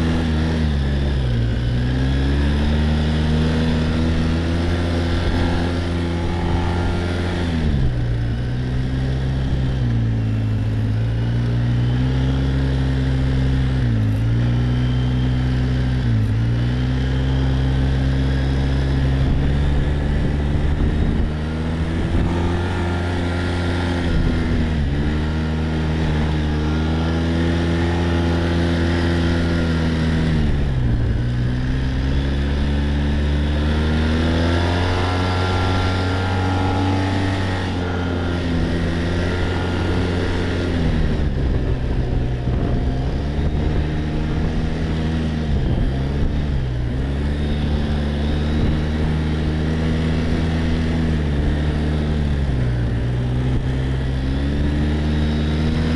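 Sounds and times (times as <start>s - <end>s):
quad bike engine running: 0.0s - 55.9s.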